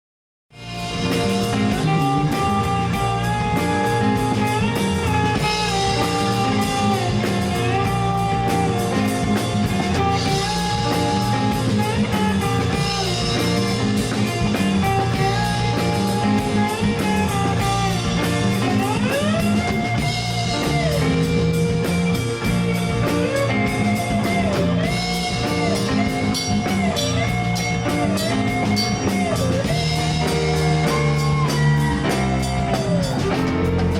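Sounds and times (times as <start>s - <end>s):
band playing: 0.5s - 33.9s
slide guitar gliding notes: 0.6s - 33.9s.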